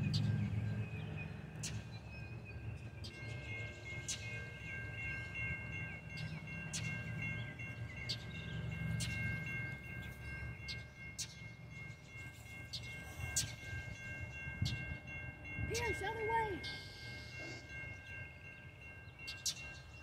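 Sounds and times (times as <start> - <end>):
high ringing tones: 0.0 - 20.0
train rumbling: 0.0 - 20.0.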